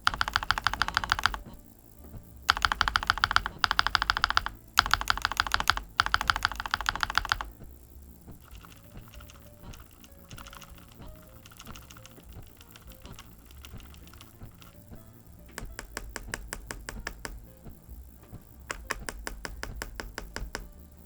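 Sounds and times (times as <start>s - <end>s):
mechanical keyboard key clicks: 0.0s - 1.5s, 2.5s - 7.6s, 8.4s - 14.8s, 15.5s - 17.4s, 18.7s - 20.7s
soft background music: 0.0s - 21.0s.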